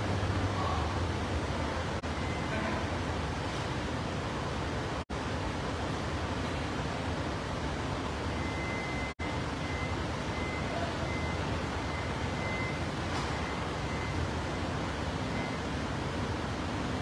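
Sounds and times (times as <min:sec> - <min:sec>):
vehicle running in car park: 0:00.0 - 0:17.0.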